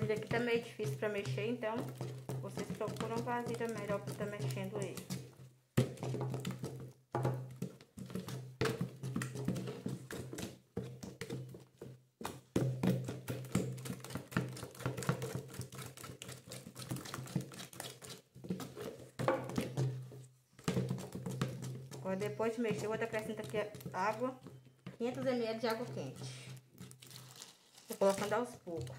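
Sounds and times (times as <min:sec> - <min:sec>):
wooden spoon scraping plastic bucket: 0:00.0 - 0:28.9.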